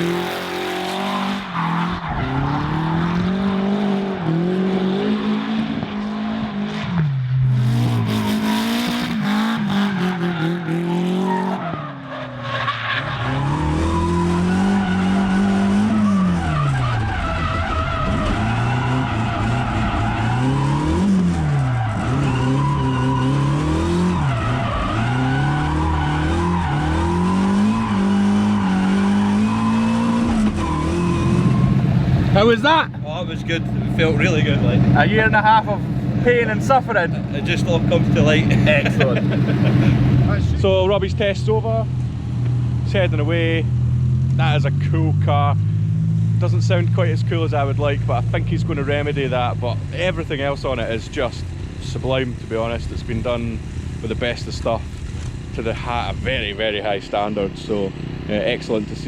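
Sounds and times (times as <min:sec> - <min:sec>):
car engine revving: 0:00.0 - 0:59.0
tyres skidding: 0:00.0 - 0:59.0.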